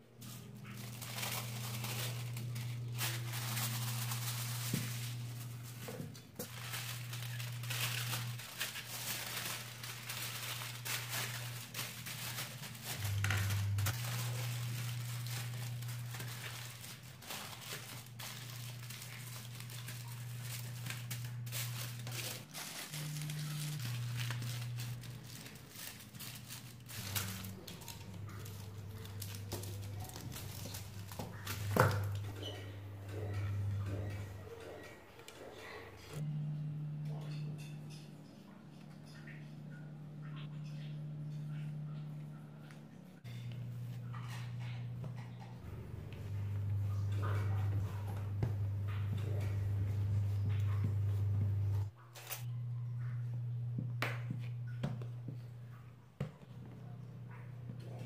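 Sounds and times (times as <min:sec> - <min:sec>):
aluminium foil crinkling: 0:00.1 - 0:36.2, 0:37.3 - 0:38.0, 0:42.6 - 0:53.1.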